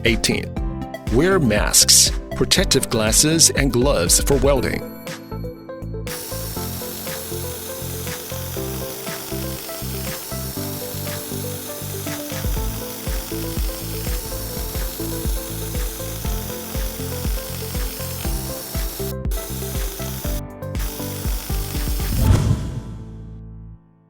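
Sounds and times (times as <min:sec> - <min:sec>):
background music with steady beat: 0:00.0 - 0:23.4.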